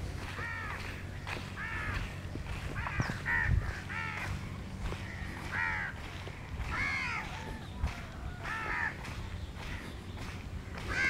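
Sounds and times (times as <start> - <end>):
crows cawing: 0.1 - 11.0.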